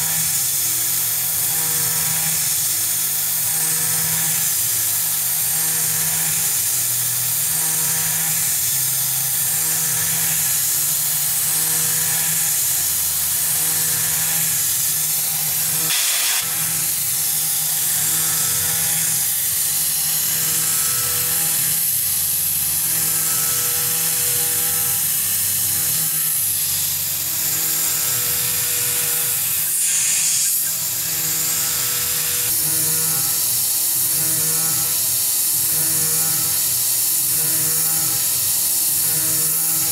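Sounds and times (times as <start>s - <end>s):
chattering buzz of metal cutting: 0.0s - 39.9s.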